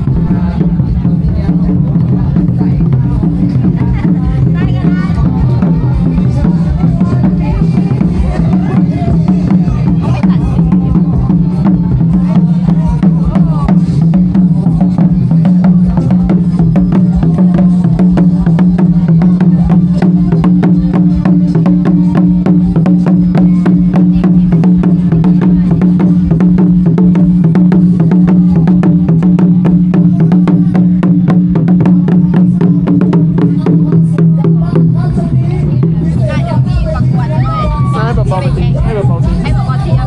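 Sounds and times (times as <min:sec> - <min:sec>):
fast drumbeat: 0:00.0 - 0:40.0.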